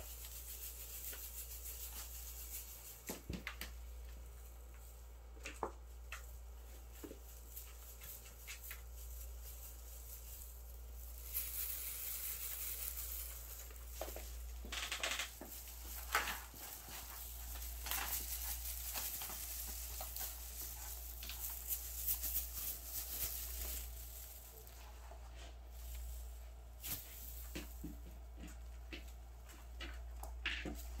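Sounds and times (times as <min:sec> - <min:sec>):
paws scratching and tapping: 0:00.2 - 0:24.9, 0:25.8 - 0:31.0.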